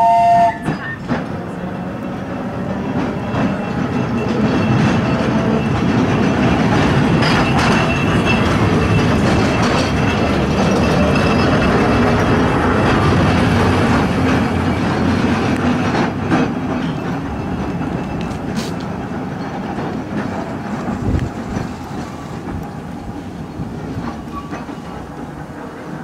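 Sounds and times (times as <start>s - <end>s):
electric tram rumbling: 0.0s - 26.0s
wheels clicking on rails: 0.0s - 26.0s.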